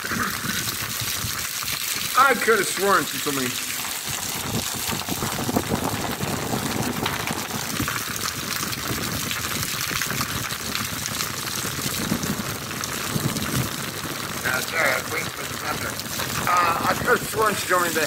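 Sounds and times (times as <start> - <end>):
heavy rain on concrete: 0.0 - 18.0.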